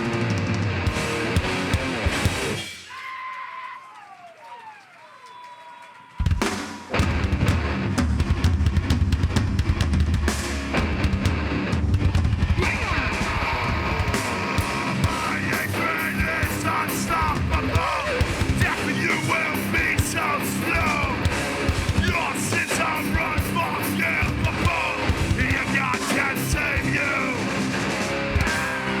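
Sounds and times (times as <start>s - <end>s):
bass guitar: 0.0s - 2.8s, 6.9s - 29.0s
distorted electric guitars: 0.0s - 2.9s, 6.3s - 29.0s
fast pounding drums: 0.0s - 2.9s, 6.2s - 29.0s.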